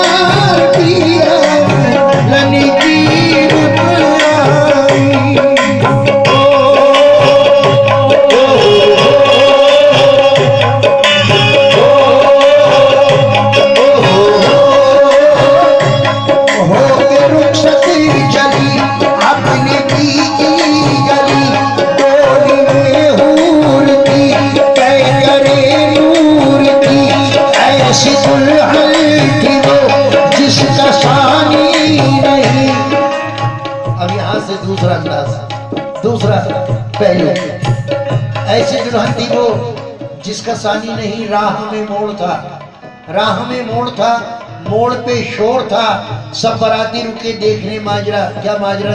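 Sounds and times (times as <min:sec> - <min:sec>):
harmonium held notes: 0:00.0 - 0:48.4
tabla playing: 0:00.0 - 0:48.9.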